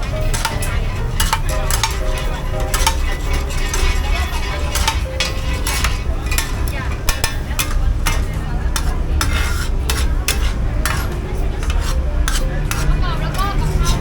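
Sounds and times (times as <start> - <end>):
metal utensil scraping a pan: 0.0 - 14.0.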